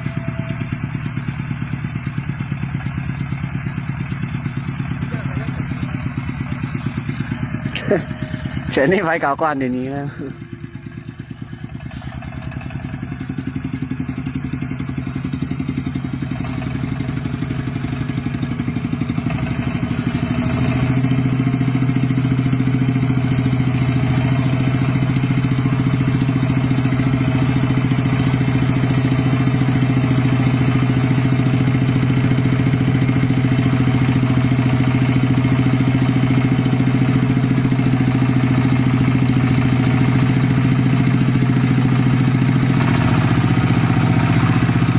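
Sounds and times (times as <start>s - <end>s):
tractor engine humming: 0.0s - 44.9s.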